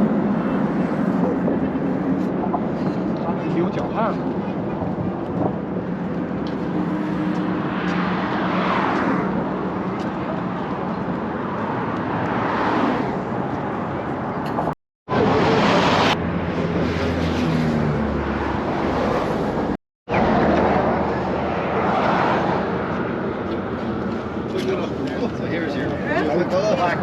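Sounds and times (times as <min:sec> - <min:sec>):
cars passing by: 0:00.0 - 0:27.0
vehicles passing on road: 0:00.0 - 0:27.0.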